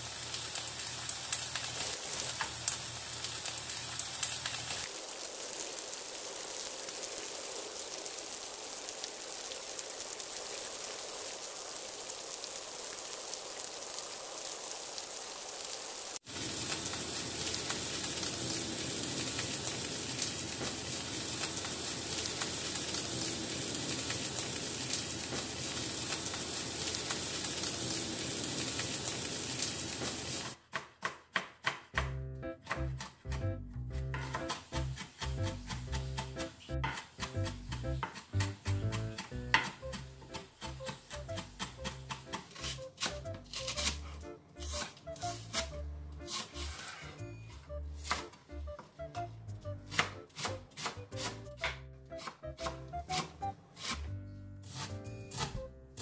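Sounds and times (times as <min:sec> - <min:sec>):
patties sizzling in oil: 0:00.0 - 0:30.6, 0:32.8 - 0:54.1.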